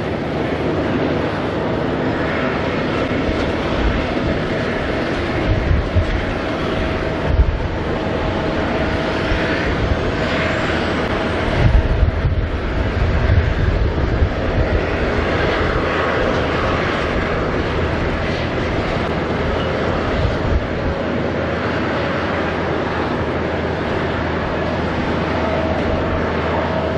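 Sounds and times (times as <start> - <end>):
gusty low rumble: 0.0 - 26.9
jet airliner engine whine: 0.0 - 26.9.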